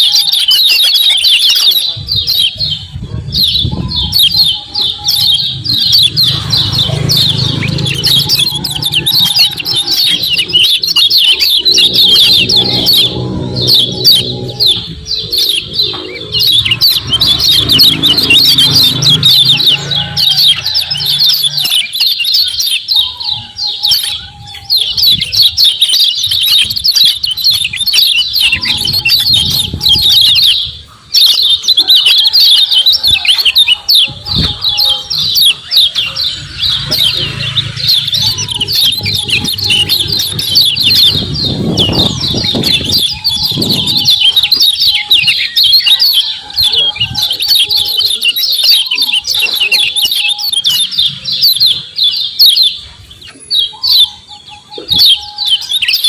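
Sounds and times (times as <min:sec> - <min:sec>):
bird chattering call: 0:00.0 - 0:56.0.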